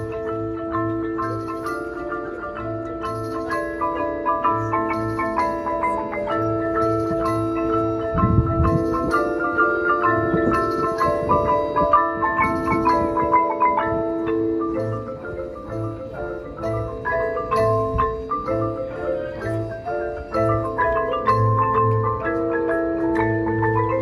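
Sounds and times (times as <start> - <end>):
marimbas playing quick runs: 0.0 - 24.0.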